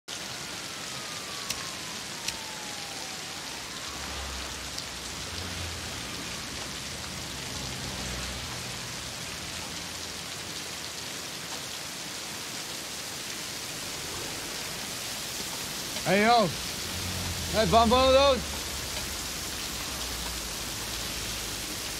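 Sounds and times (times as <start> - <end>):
heavy rain on pavement: 0.1 - 21.9.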